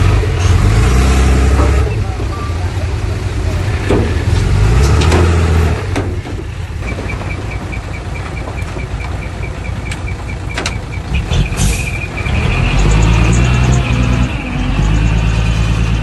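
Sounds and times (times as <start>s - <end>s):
heavy diesel machinery engine: 0.0s - 16.0s.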